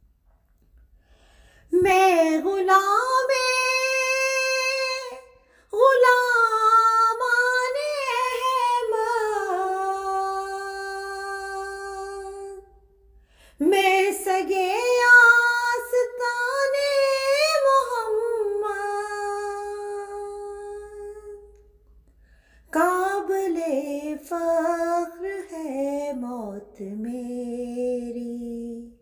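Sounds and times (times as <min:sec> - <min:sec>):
person singing unaccompanied: 0:01.7 - 0:12.9, 0:13.6 - 0:21.6, 0:22.7 - 0:29.0.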